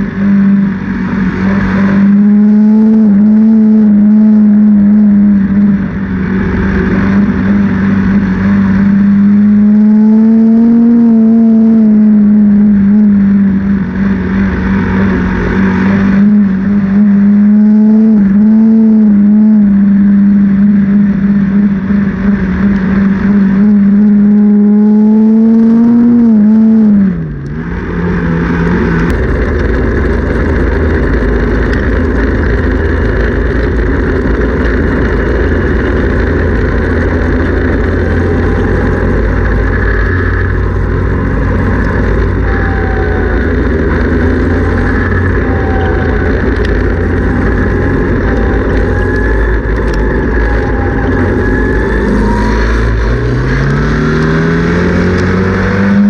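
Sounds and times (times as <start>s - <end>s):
race car engine: 0.0s - 56.0s.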